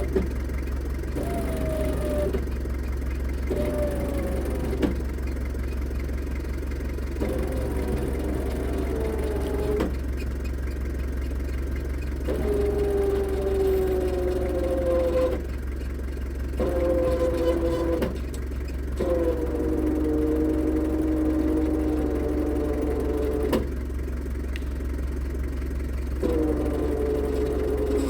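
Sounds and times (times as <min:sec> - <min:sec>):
truck engine idling: 0:00.0 - 0:28.0
winch motor whine: 0:00.0 - 0:28.0.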